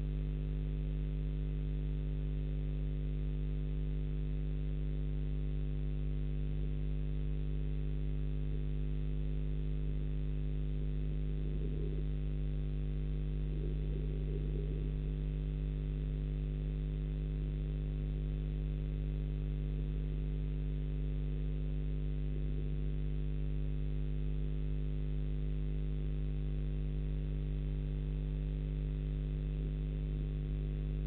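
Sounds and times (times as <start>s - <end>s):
electrical mains hum: 4.6s - 31.0s.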